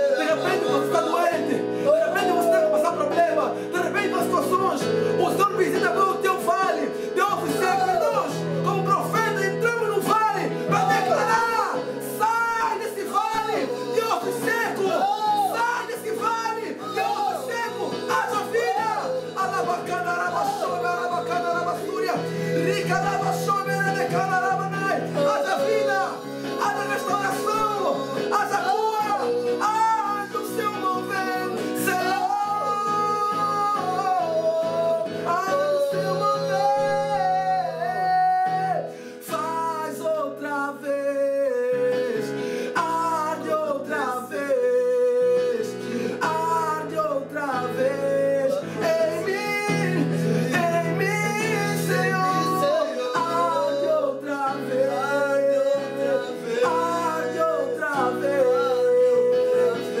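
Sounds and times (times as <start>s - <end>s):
person singing: 0.0s - 60.0s.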